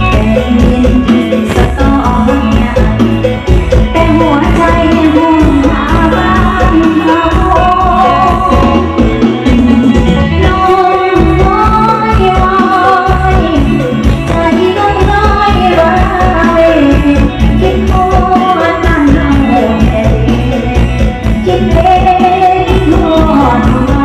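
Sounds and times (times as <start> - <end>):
song with heavy bass over loudspeakers: 0.0 - 24.0.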